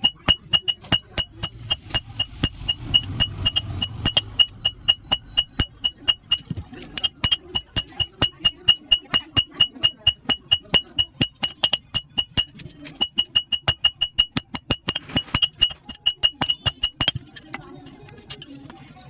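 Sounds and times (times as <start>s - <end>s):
hammer blows on anvil: 0.0s - 17.2s.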